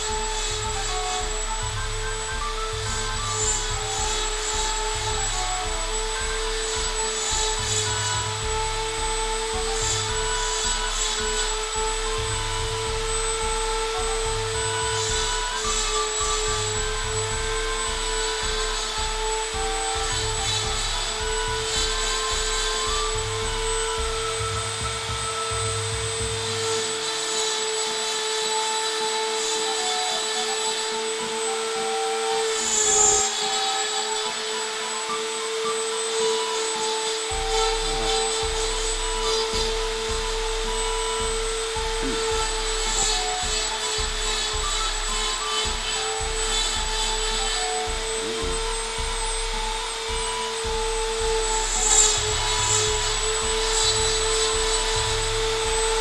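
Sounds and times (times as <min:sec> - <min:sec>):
rotary tool grinding: 0:00.0 - 0:56.0.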